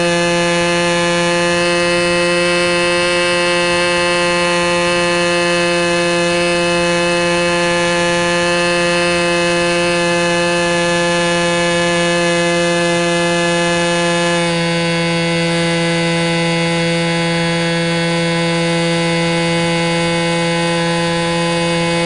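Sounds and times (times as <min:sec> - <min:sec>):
model plane motor buzzing: 0:00.0 - 0:22.0.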